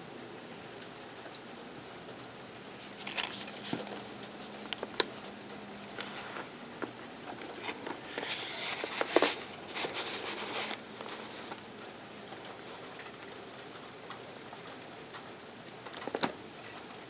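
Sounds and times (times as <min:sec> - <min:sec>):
faint steady hum: 0:00.0 - 0:17.0
rain pattering: 0:00.1 - 0:02.8, 0:03.5 - 0:17.0.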